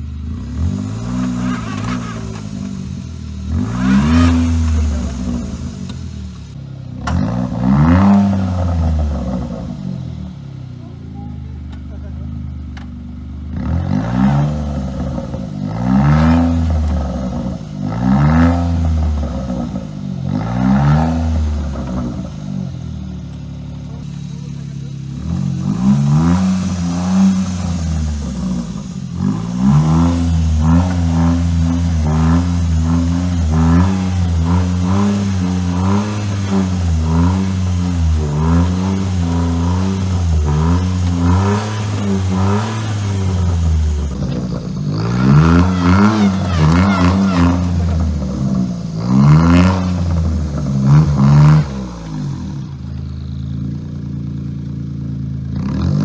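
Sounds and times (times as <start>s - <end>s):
car engine wavering while driving: 0.0s - 56.0s.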